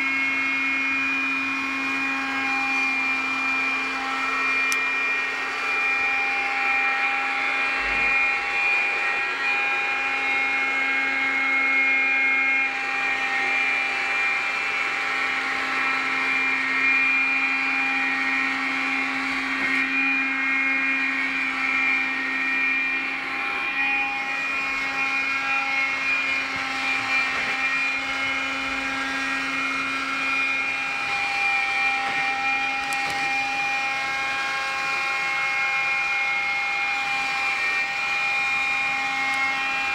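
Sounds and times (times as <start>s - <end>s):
floor-washing robot motor whirring: 0.0s - 39.9s.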